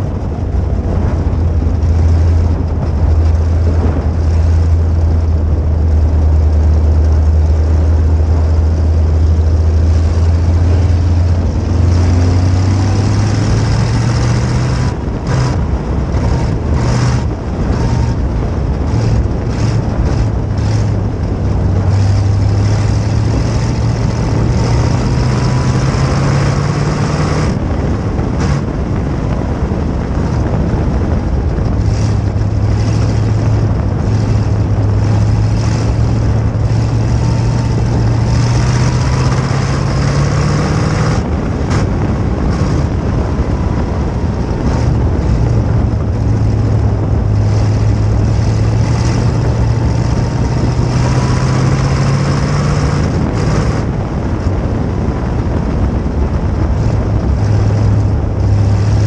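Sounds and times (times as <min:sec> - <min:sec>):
race car engine running hard: 0:00.0 - 0:59.0
wind rush on microphone: 0:00.0 - 0:59.0.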